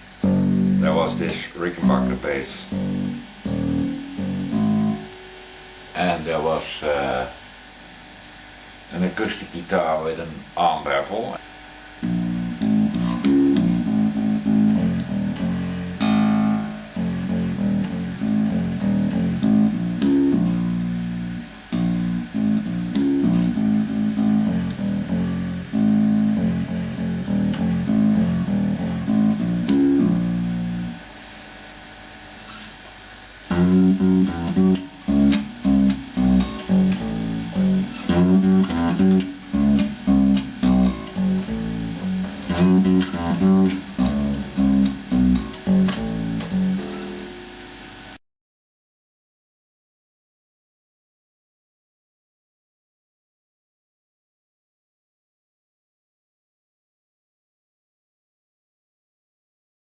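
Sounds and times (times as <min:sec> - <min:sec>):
electric bass guitar: 0:00.0 - 0:48.2.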